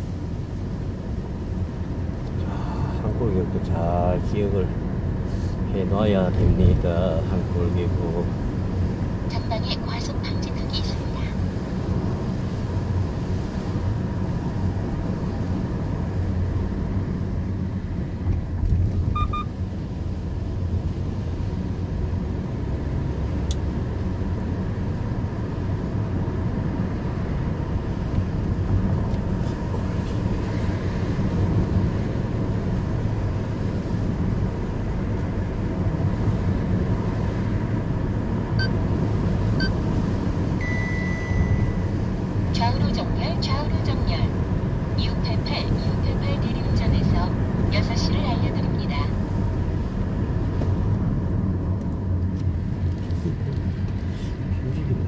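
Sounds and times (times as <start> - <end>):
car engine rumble: 0.0 - 55.0.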